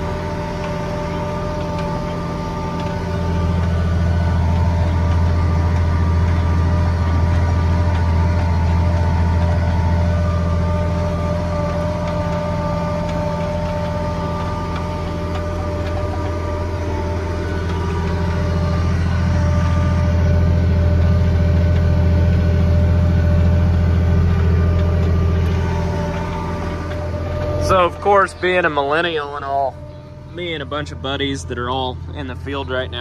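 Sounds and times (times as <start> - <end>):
steady engine whine: 0.0 - 33.0
tractor diesel engine droning: 0.0 - 33.0.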